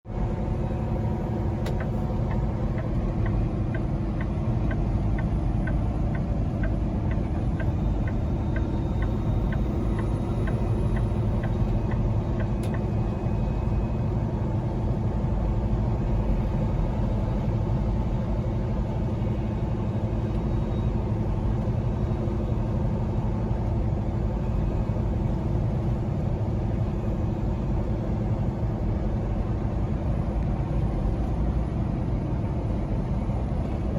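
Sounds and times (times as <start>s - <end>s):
diesel truck engine rumbling: 0.1s - 33.9s.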